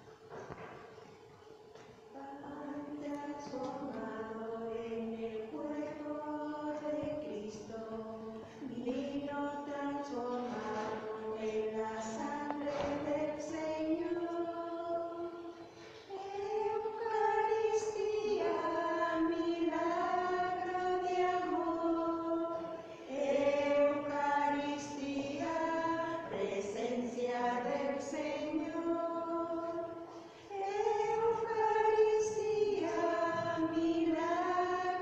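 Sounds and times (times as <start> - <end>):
voices singing a slow hymn: 0.0 - 35.0.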